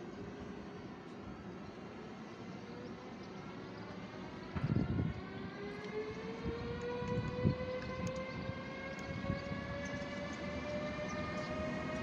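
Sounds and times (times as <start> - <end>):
electric locomotive whine: 0.0 - 12.0
wheels rumbling on rails: 0.0 - 12.0.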